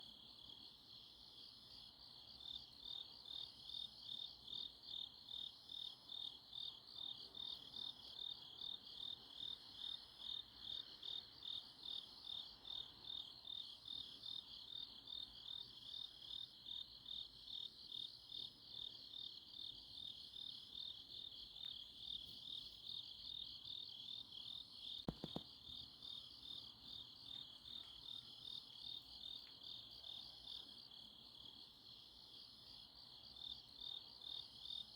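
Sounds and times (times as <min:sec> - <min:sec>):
faint slower high insect call: 0:00.0 - 0:34.9.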